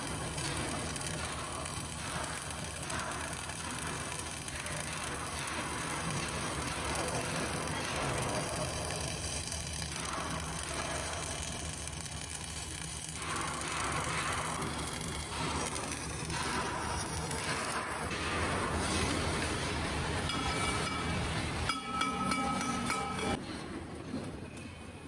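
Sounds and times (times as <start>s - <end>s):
welding arc burning: 0.0s - 23.4s.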